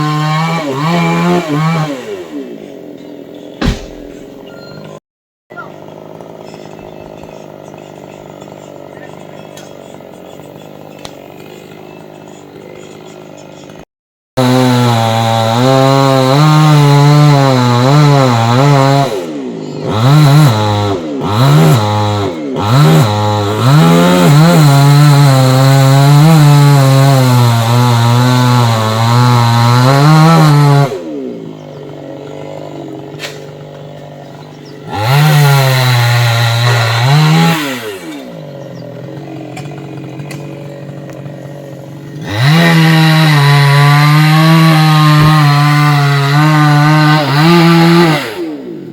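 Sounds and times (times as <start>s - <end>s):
chainsaw cutting wood: 0.0s - 4.5s, 5.7s - 13.8s, 14.4s - 48.9s.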